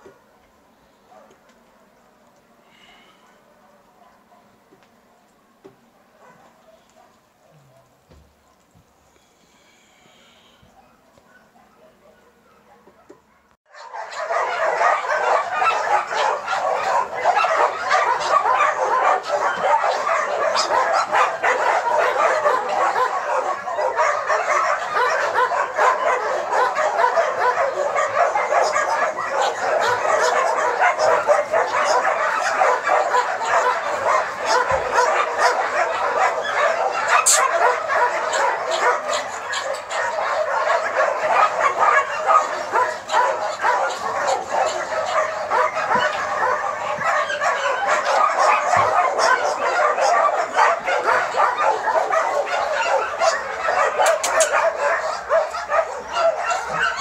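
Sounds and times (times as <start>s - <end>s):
many dogs barking and yelping: 0.0s - 2.1s, 3.2s - 5.2s, 5.8s - 8.8s, 10.2s - 57.0s.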